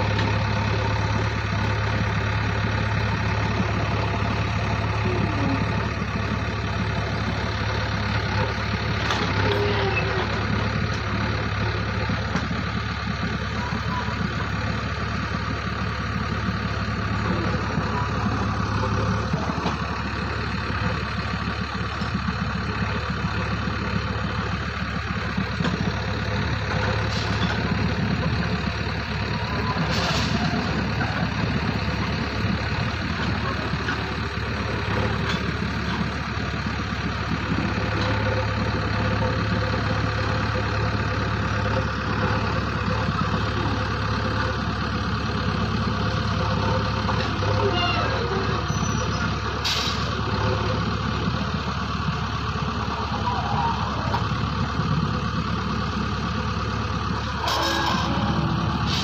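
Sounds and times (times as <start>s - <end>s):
heavy machinery engine running: 0.0s - 59.0s.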